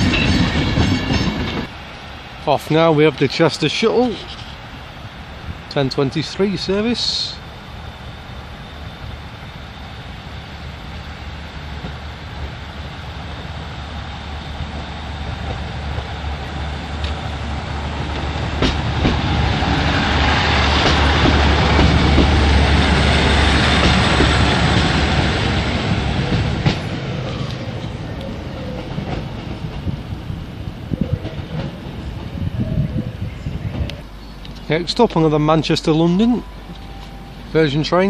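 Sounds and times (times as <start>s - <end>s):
diesel train engine drone: 0.0s - 38.0s
train wheel noise: 0.0s - 38.0s.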